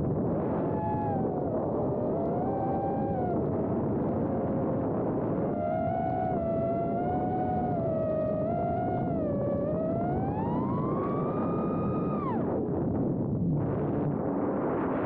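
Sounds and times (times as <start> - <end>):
drone motors whining: 0.3 - 12.6.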